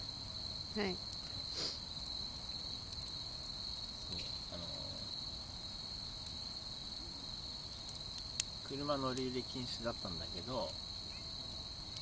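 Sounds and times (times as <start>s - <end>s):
campfire crackles: 0.0s - 12.0s
crickets chirping: 0.0s - 12.0s.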